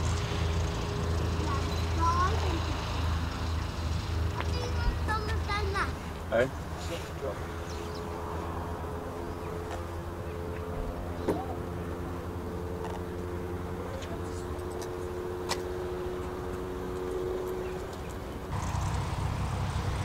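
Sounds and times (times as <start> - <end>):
distant aircraft engines droning: 0.0 - 20.0.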